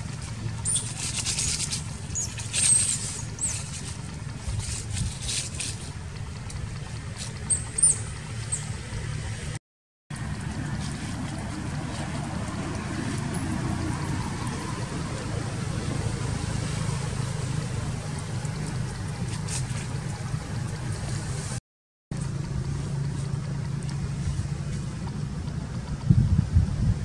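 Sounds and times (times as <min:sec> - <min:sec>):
loud rumble: 0:00.0 - 0:27.0
low engine hum: 0:00.0 - 0:27.0
outdoor background noise: 0:00.0 - 0:27.0.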